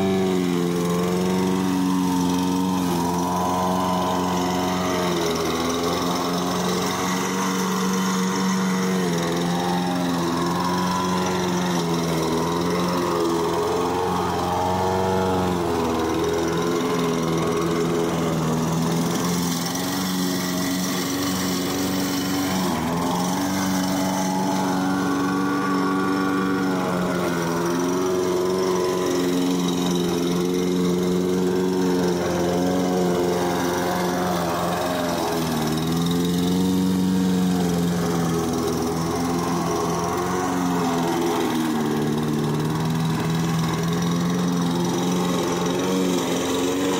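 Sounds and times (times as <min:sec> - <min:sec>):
lawnmower engine running unevenly: 0:00.0 - 0:46.9.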